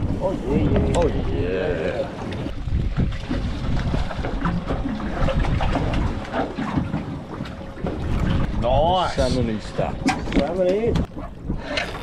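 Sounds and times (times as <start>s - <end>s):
water sloshing against boat hull: 0.0s - 12.0s
wind buffeting microphone: 0.0s - 12.0s.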